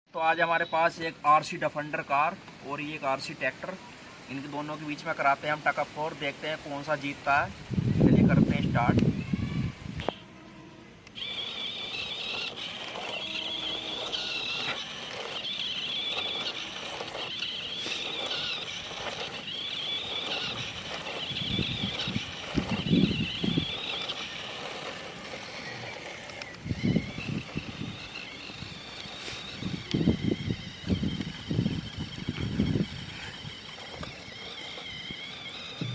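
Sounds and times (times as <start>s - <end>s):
toy electric motors whining: 0.2s - 35.9s.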